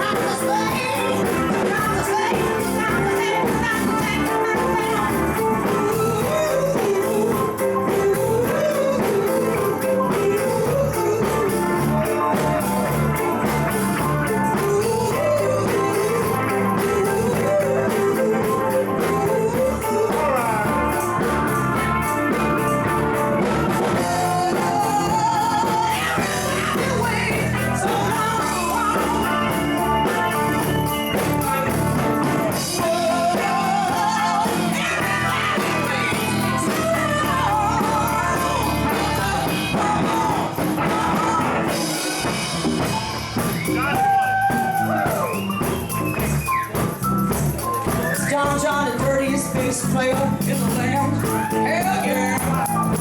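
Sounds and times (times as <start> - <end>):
person singing: 0.0 - 45.6, 47.6 - 53.0
rock and roll band playing: 0.0 - 53.0.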